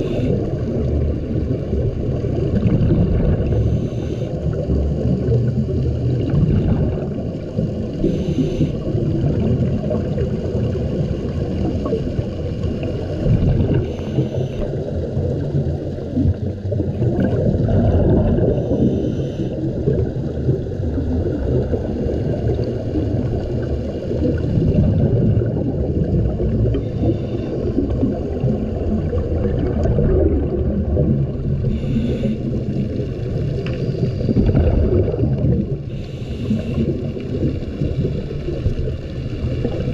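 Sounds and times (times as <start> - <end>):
muffled underwater water rushing: 0.0 - 39.9
regulator bubbles hissing: 0.0 - 39.9.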